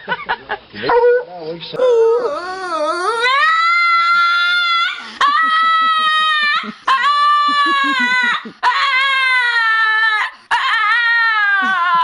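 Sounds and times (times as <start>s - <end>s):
dog whining howls: 0.9s - 12.0s.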